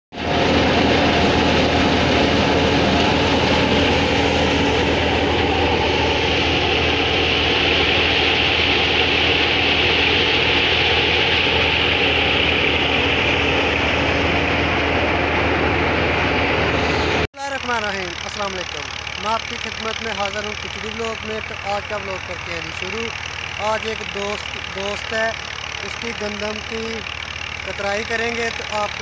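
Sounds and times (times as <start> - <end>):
threshing machine hiss: 0.2 - 15.5, 16.7 - 29.0
low engine hum: 0.2 - 29.0.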